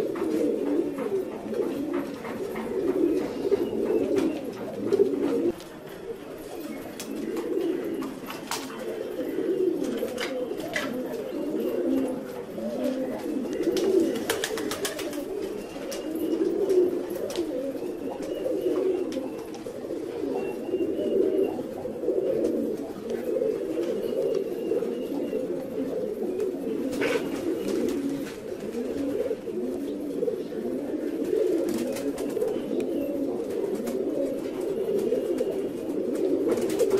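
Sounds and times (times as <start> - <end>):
pigeons cooing: 0.0 - 36.9.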